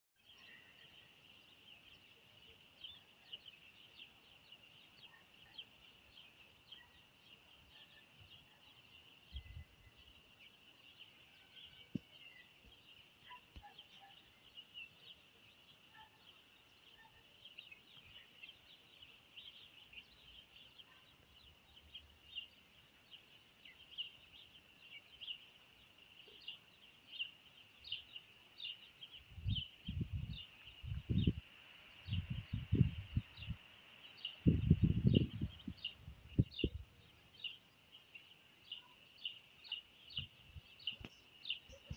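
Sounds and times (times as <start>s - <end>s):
small birds chirping: 0.2s - 41.9s.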